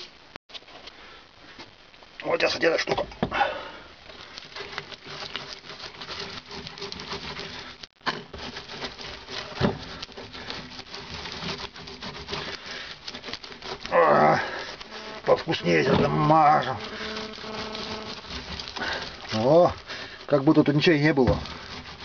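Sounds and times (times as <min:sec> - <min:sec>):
wet crackly scratching and rubbing: 0:04.0 - 0:22.0.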